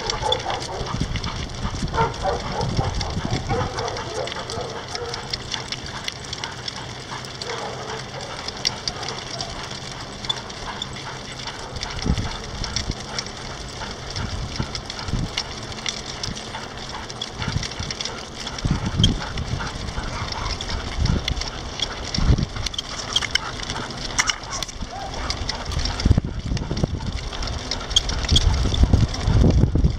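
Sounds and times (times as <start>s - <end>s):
light clicks and rattles: 0.0s - 29.9s
wheels rolling on pavement: 0.0s - 29.9s.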